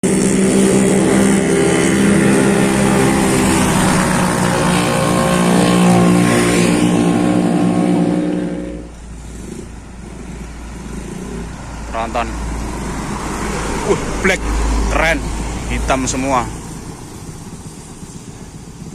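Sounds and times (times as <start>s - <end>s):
diesel truck engine passing: 0.0s - 18.9s
low traffic rumble: 0.0s - 18.9s.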